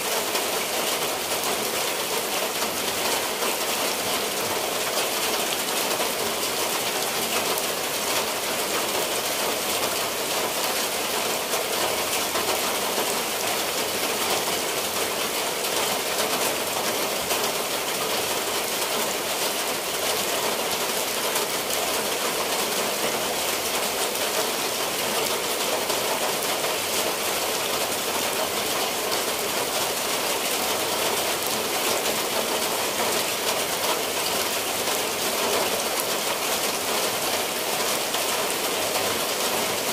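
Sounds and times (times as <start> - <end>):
rain on roofs and foliage: 0.0 - 39.9.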